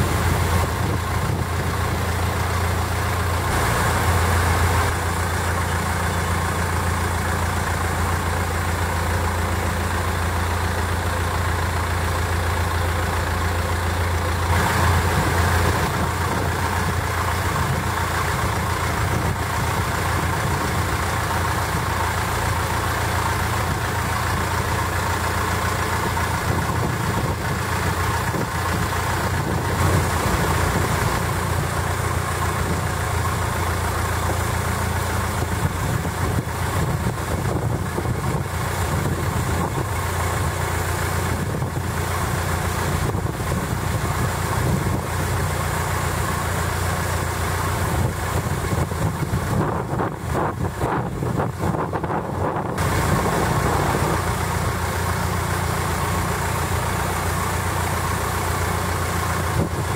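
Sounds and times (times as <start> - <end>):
boat engine running: 0.0 - 59.9
wind and water rushing: 0.0 - 59.9.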